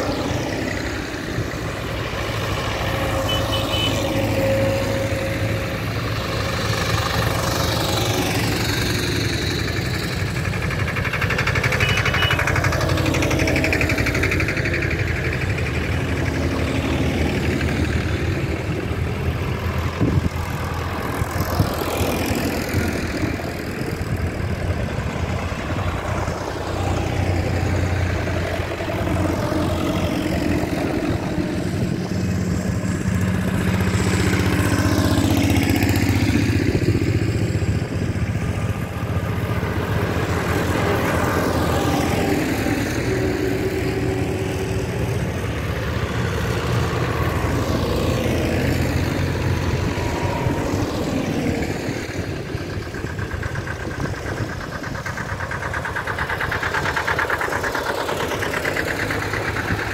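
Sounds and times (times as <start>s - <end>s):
tractor engines driving past: 0.0s - 59.9s.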